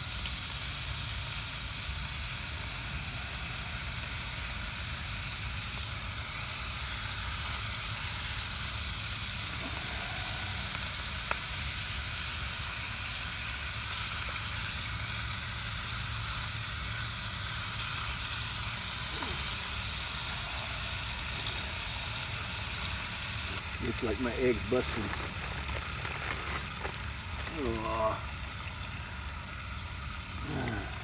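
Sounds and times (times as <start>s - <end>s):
bacon sizzling in a pan: 0.0s - 30.7s.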